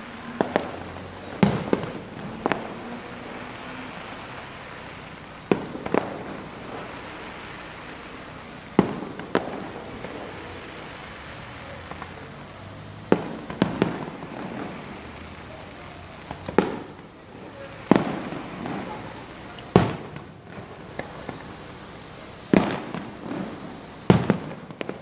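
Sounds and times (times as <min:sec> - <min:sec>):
fireworks bangs: 0:00.0 - 0:25.0
steady hiss: 0:00.0 - 0:25.0.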